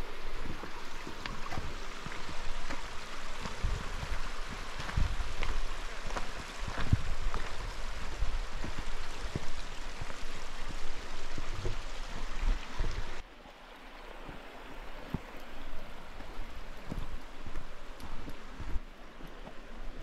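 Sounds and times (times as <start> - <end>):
brook water rushing: 0.0 - 20.0.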